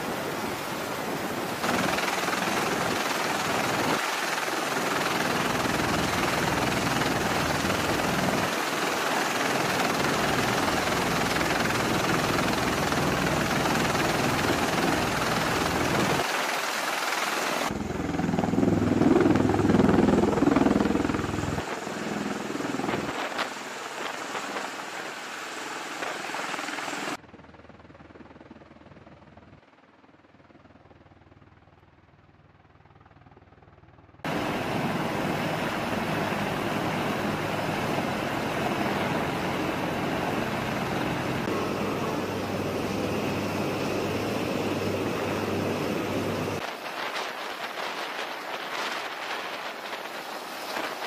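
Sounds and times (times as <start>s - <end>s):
aircraft turbine and rotor noise: 0.0s - 51.0s.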